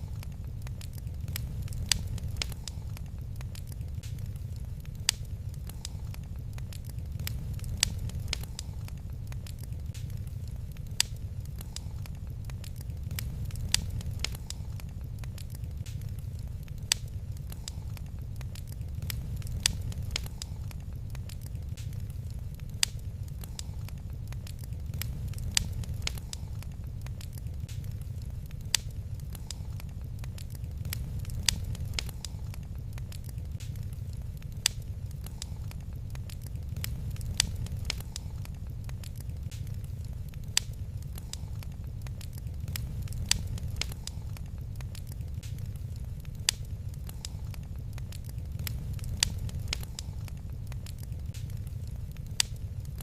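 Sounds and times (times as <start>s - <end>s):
fire popping: 0.0s - 53.0s
low rumble: 0.0s - 53.0s
wood fire crackling: 0.0s - 53.0s.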